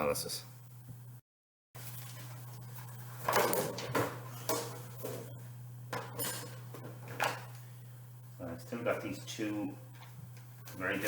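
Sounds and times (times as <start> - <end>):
steady low hum: 1.8 - 11.0.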